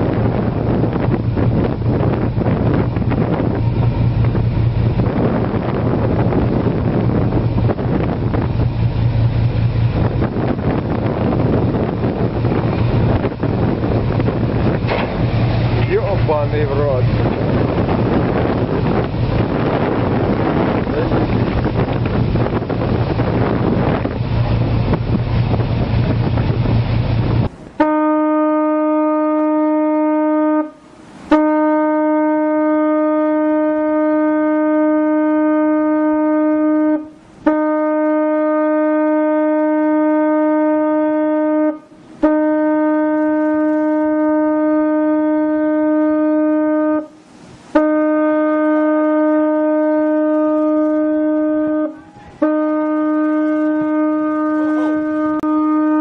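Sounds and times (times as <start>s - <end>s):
low ship horn blasts: 0.0s - 56.0s
rushing water: 0.0s - 56.0s
wind: 0.0s - 56.0s.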